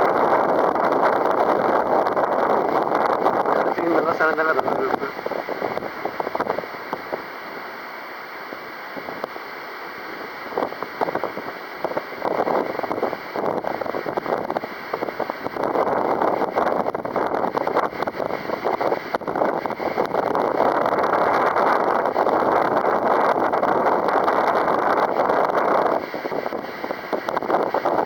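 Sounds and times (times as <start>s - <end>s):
gusty wind buffeting microphone: 0.0s - 28.0s.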